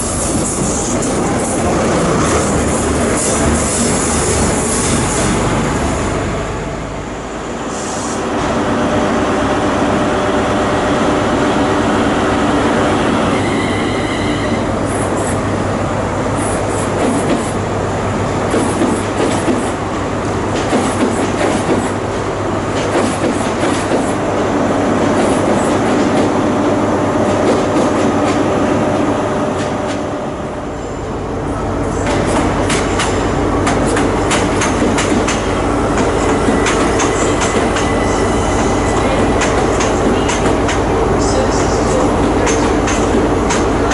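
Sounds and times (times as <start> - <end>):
train droning: 0.0 - 43.9.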